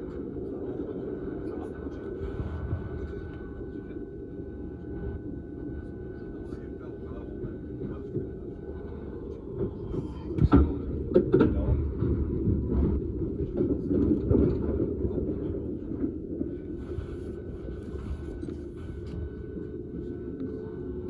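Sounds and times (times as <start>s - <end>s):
train rumble from inside carriage: 0.0s - 21.0s.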